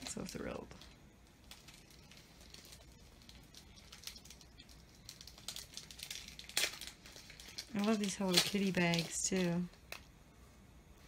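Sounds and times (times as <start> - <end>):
paper and plastic packaging crinkling: 0.0 - 10.1.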